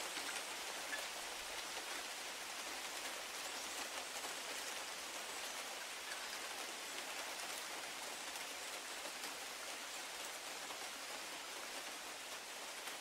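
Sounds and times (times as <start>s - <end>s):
rain hissing on trees and grass: 0.0s - 13.0s.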